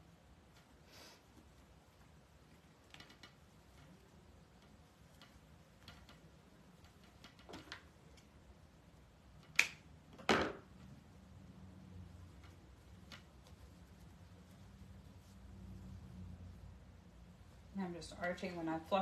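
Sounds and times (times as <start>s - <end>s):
faint rustling of mesh and ribbon: 0.0s - 19.0s.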